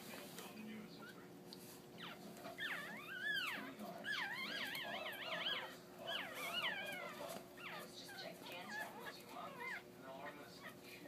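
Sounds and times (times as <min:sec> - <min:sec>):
faint steady hum: 0:00.0 - 0:11.0
puppies squeaking and crying: 0:01.9 - 0:10.8.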